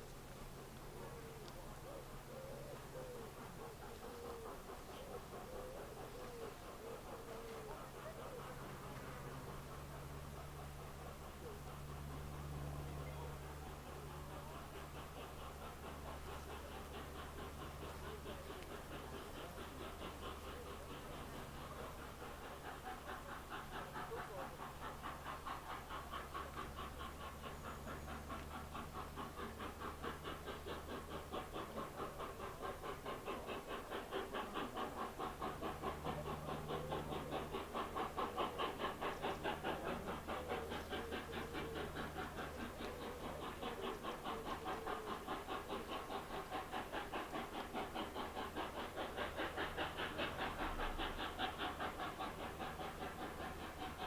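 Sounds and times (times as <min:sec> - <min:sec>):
train engine hum: 0:00.0 - 0:54.0
fast rhythmic pulsing: 0:03.2 - 0:54.0.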